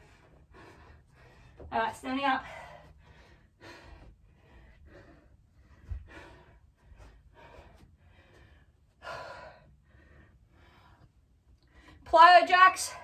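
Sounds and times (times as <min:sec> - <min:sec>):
woman breathing hard: 0:00.0 - 0:01.7, 0:02.4 - 0:12.0.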